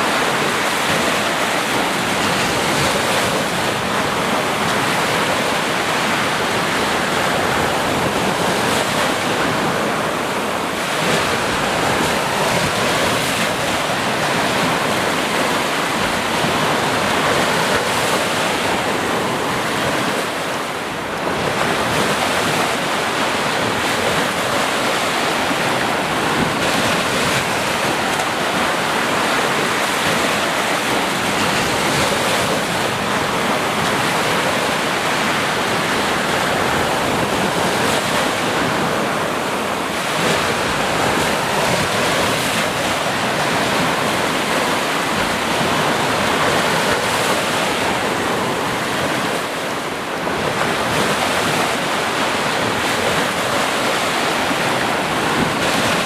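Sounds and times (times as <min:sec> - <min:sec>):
sea surf washing on shore: 0:00.0 - 0:56.0.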